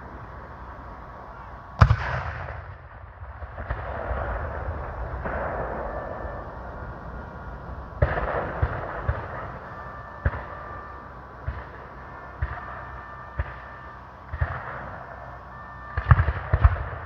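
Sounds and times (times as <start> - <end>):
cannon blast with rolling echo: 1.8 - 17.0.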